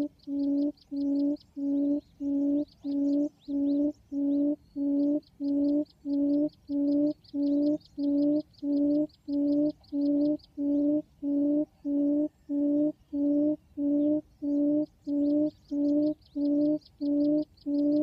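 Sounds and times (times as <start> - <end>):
faint high chirps: 0.0 - 18.0
low hoots of quail call: 0.0 - 18.0.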